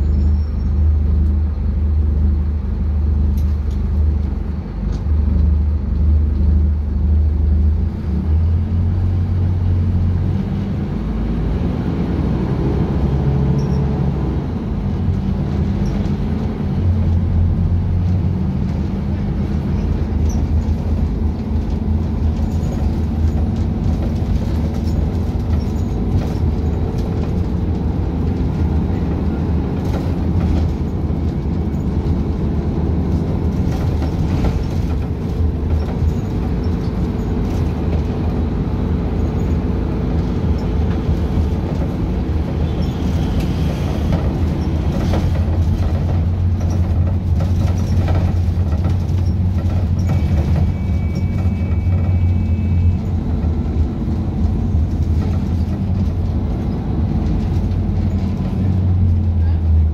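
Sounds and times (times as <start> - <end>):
rattles and clicks of bus fittings: 0.0 - 9.9, 12.0 - 59.9
low diesel engine drone: 0.0 - 59.9.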